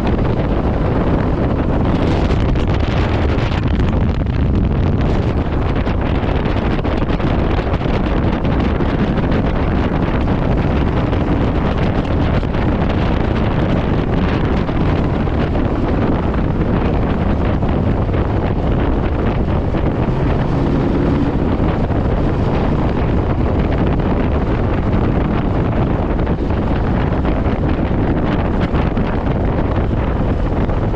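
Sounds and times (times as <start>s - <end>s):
motorcycle engine running low: 0.0s - 30.9s
wind rushing over microphone: 0.0s - 30.9s.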